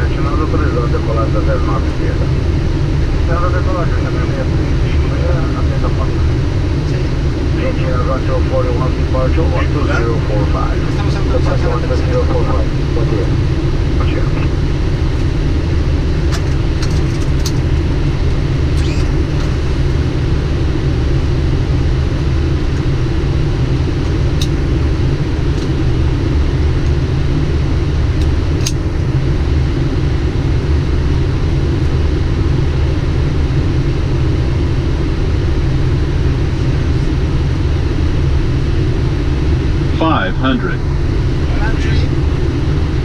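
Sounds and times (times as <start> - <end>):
airflow and engine rumble: 0.0 - 43.0.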